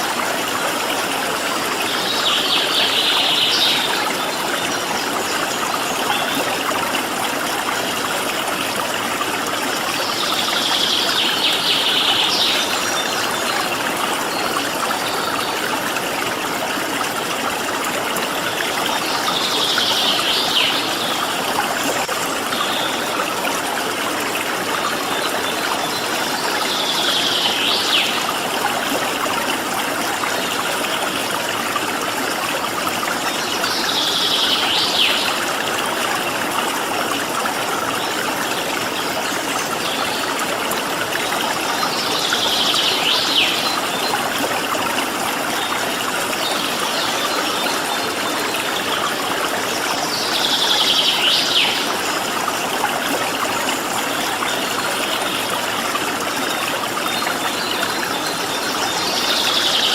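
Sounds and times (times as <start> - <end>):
flowing water stream: 0.0 - 59.9.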